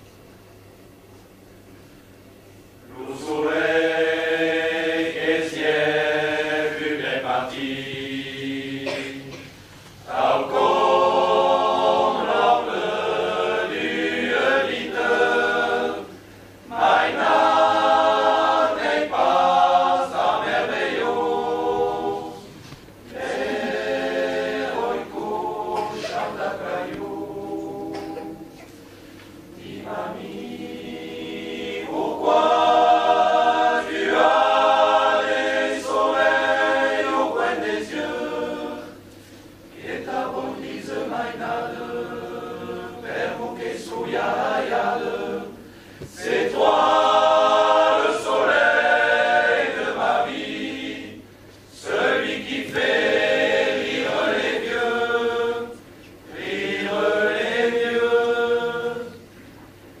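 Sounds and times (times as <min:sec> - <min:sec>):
men's choir singing a cappella: 0:02.9 - 0:28.6, 0:29.5 - 0:59.3.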